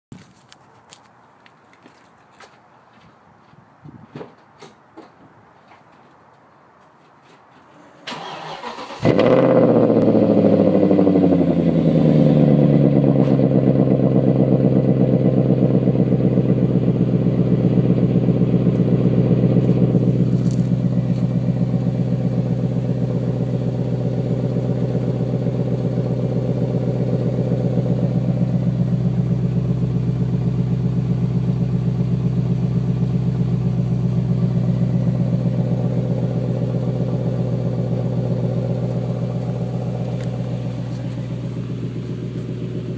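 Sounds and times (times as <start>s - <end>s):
car engine starting and idling: 7.8s - 42.9s.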